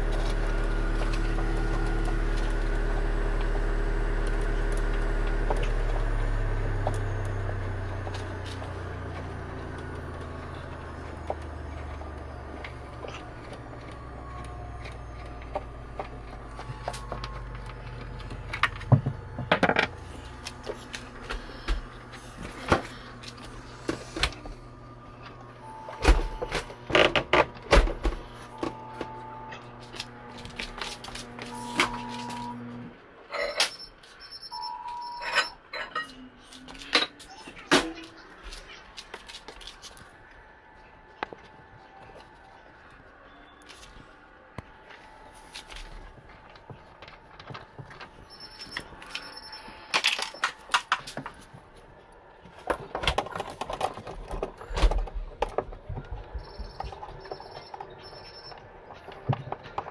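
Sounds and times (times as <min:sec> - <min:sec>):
steady low hum: 0:00.0 - 0:36.9, 0:37.8 - 0:59.9.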